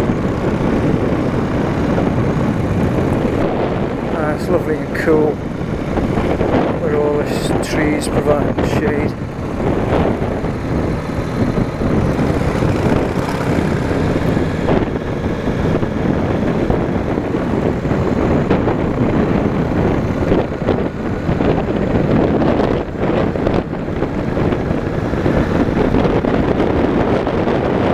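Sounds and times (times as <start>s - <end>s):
motorcycle engine running: 0.0s - 7.2s, 8.4s - 27.0s
wind noise on microphone: 0.0s - 27.9s.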